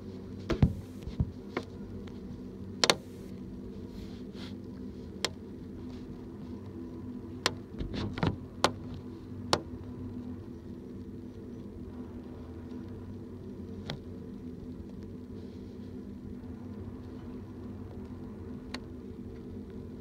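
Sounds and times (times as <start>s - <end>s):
train low hum: 0.0s - 20.0s.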